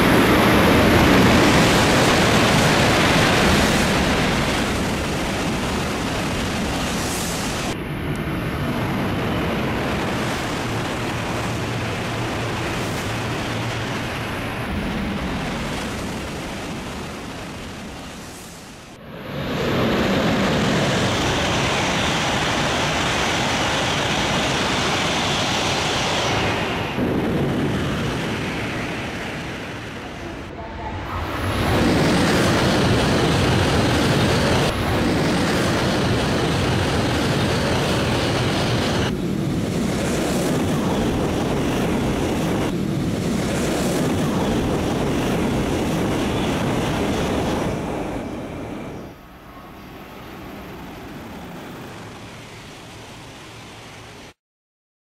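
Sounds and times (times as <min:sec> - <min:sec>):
high-speed trains passing: 0:00.0 - 0:54.4.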